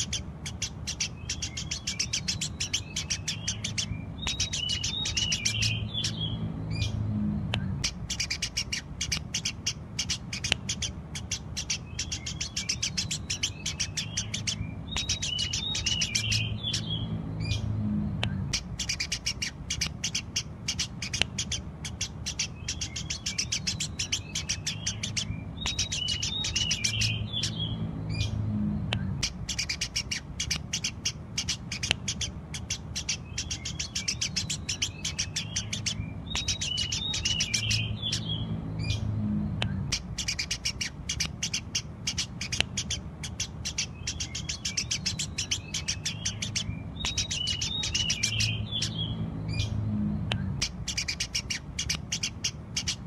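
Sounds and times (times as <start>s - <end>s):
bird twittering phrase: 0.0s - 53.0s
low steady hum: 0.0s - 53.0s
sparrows chirping: 0.0s - 53.0s.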